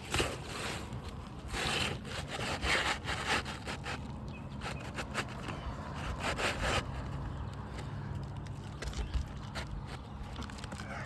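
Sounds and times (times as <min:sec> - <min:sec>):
shingle scraping against roof: 0:00.0 - 0:08.0, 0:08.6 - 0:11.0.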